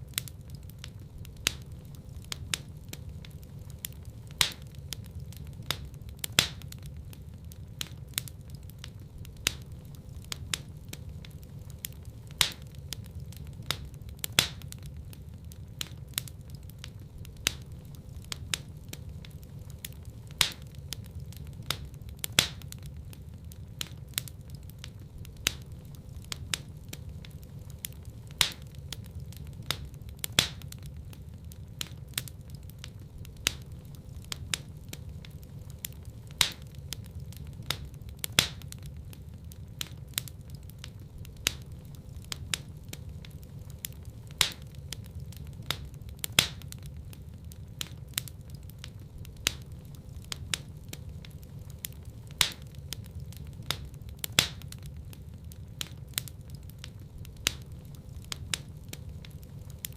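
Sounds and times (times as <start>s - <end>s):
loud fire snaps: 0.0s - 59.9s
wood fire crackling: 0.0s - 59.9s.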